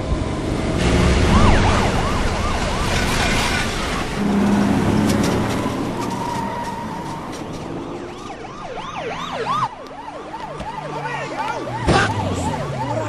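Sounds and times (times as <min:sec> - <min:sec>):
engines running: 0:00.0 - 0:13.0
police siren wailing: 0:00.8 - 0:13.0.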